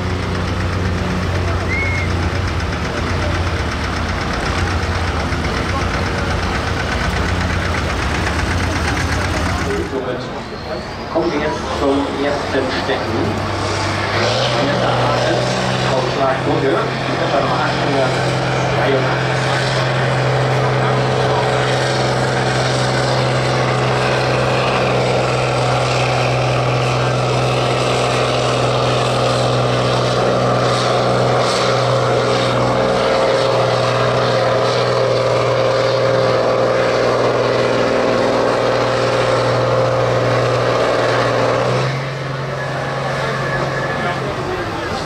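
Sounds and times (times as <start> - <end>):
tractor diesel engine under heavy load: 0.0 - 45.0.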